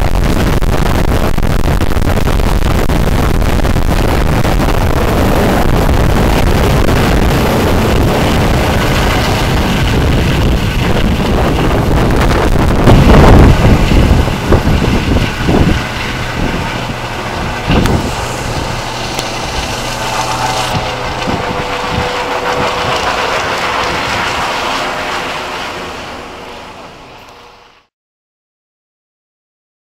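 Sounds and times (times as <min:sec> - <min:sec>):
wind buffeting microphone: 0:00.0 - 0:27.5
helicopter rotor and turbines: 0:00.0 - 0:27.9.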